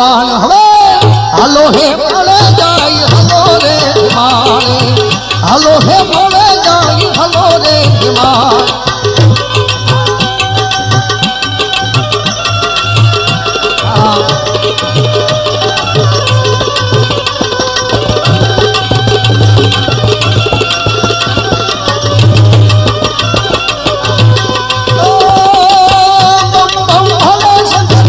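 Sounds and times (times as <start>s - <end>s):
rapid tabla drumming: 0.0s - 28.0s
sustained melodic accompaniment: 1.0s - 28.0s
wavering melody line: 2.4s - 28.0s.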